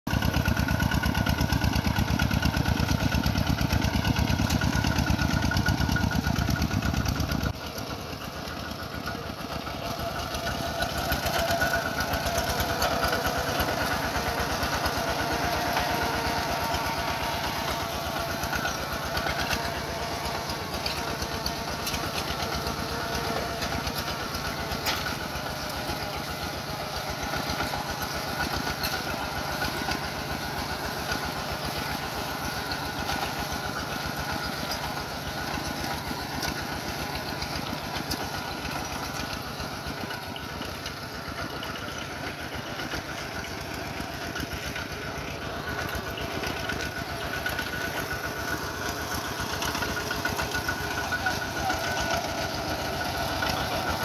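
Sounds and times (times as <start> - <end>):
walking tractor diesel engine running: 0.1 - 54.0.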